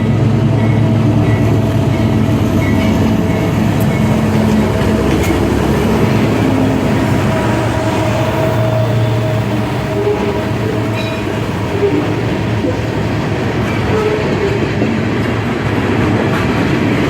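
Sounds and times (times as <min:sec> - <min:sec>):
diesel locomotive drone: 0:00.0 - 0:17.0
train wheels rumbling on rails: 0:00.0 - 0:17.0.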